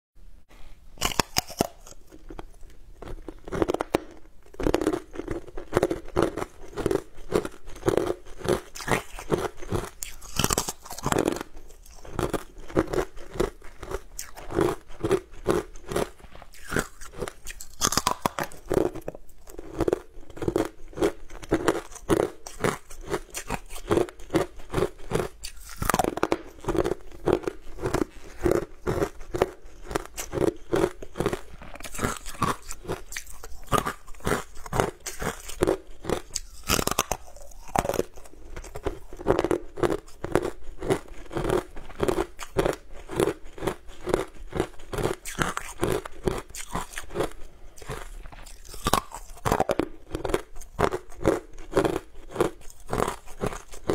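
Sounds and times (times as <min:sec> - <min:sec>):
crunching and chewing: 0:01.0 - 0:53.9.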